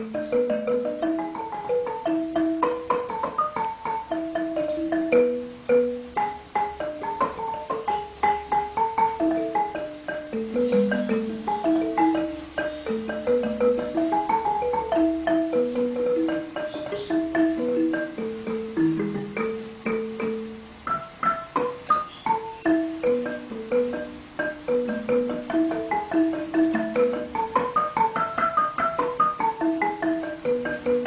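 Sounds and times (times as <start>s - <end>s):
melody of ringing struck notes: 0.0s - 31.0s.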